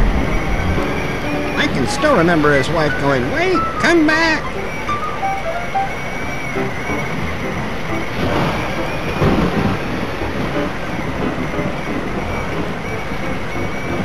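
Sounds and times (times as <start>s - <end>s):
rain rushing: 0.0s - 14.0s
thunder rumble: 0.0s - 14.0s.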